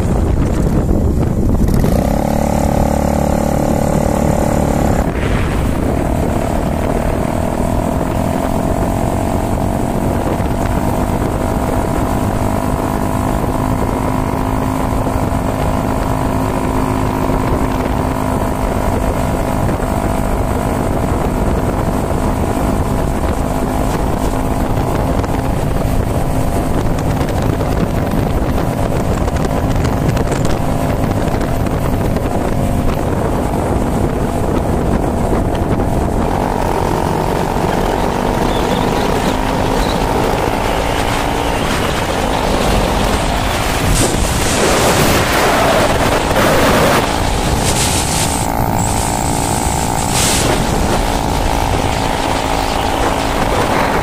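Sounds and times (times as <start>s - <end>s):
motorcycle engine running: 0.0s - 54.0s
wind on microphone: 0.0s - 54.0s.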